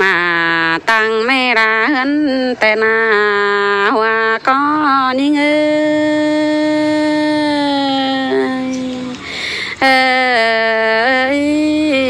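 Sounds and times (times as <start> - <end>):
woman singing folk song: 0.0 - 12.0.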